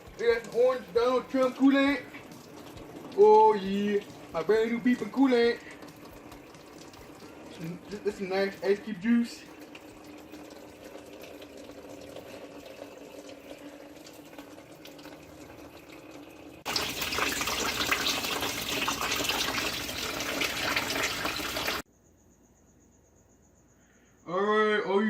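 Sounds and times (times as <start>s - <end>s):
liquid being poured: 0.0s - 21.8s.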